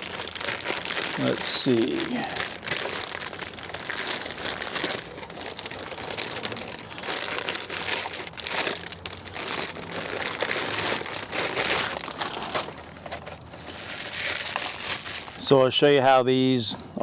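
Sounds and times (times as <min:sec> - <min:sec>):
packaging crinkling and rustling: 0:00.0 - 0:15.6.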